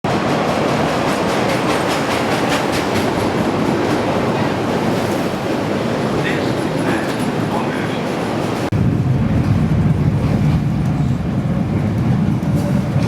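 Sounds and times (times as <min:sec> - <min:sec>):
train running noise: 0:00.1 - 0:13.0.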